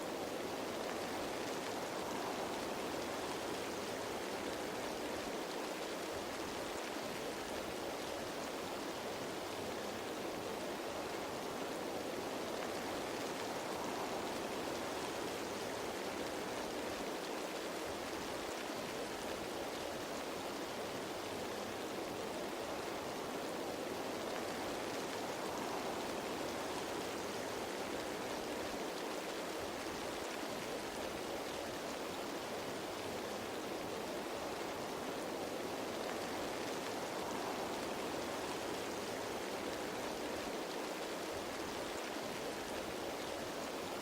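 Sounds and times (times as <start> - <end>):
rain falling on foliage: 0.0 - 44.0.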